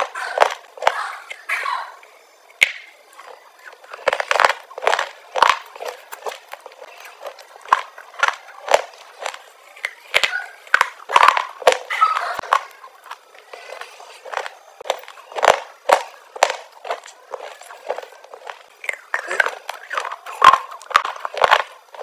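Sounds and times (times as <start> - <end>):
mouth crunching hard chalk: 2.6 - 22.0.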